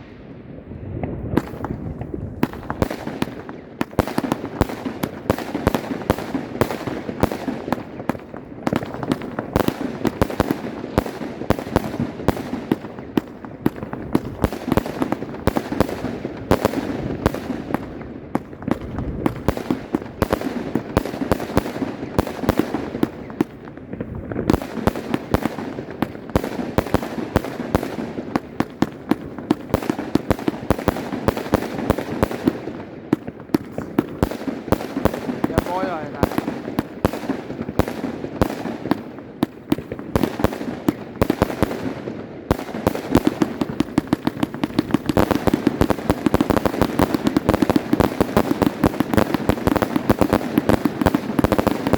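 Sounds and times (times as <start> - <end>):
firework battery bangs and crackling: 0.0 - 51.9.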